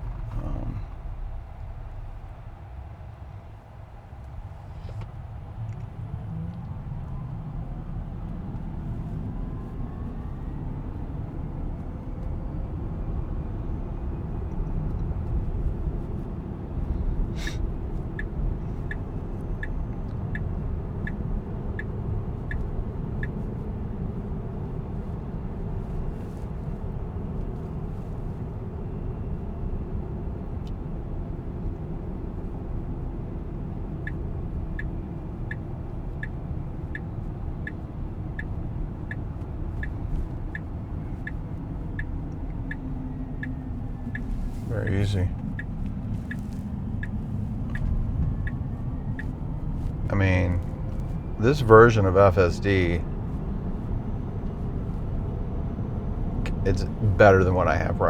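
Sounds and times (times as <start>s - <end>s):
turn signal ticking: 0.0s - 3.2s, 4.1s - 58.0s
road and tyre rumble in car cabin: 0.0s - 58.0s.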